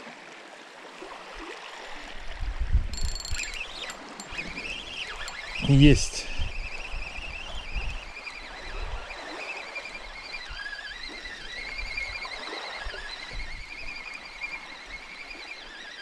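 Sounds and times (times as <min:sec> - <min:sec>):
fishing reel gear whine: 0:02.9 - 0:16.0.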